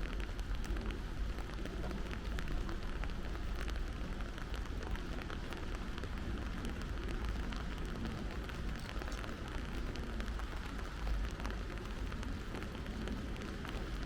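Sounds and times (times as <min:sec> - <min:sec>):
constant low rumble: 0:00.0 - 0:14.0
steady rain falling: 0:00.0 - 0:14.0
raindrop taps: 0:01.5 - 0:14.0.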